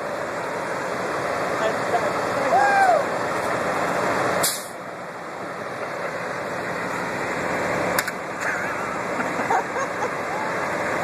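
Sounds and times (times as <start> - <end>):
semi trucks idling: 0.0 - 11.0.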